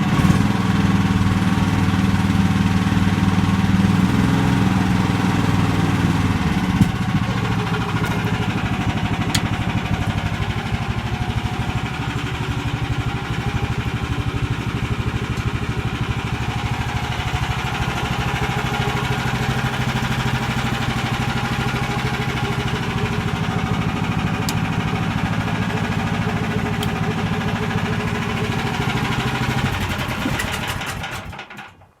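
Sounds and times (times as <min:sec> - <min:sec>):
small engine running: 0:00.0 - 0:31.7.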